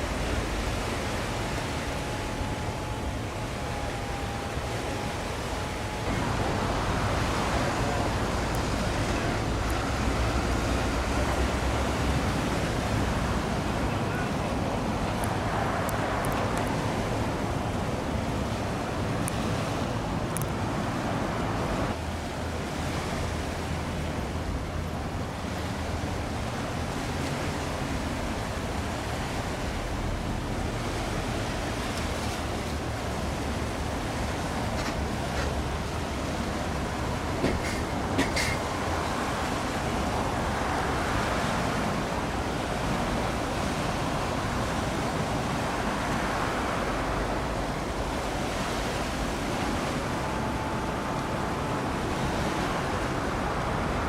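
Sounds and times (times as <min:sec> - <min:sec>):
water noise: 0:00.0 - 0:54.0
waves: 0:00.0 - 0:54.0
wind: 0:00.0 - 0:54.0.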